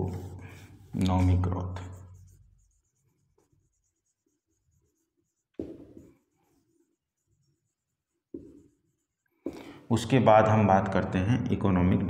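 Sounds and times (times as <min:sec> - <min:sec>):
marker writing on whiteboard: 0:00.0 - 0:09.8.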